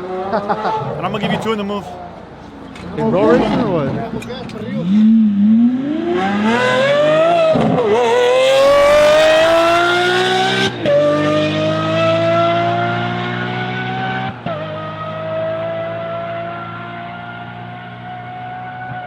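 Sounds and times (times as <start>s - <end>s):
truck engine accelerating hard: 0.0s - 19.0s.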